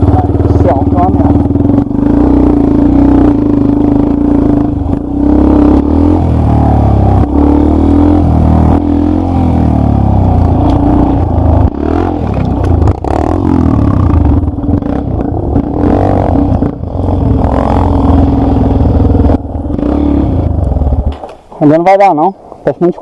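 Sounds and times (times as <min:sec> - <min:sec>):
dirt bike engine revving: 0:00.0 - 0:21.2.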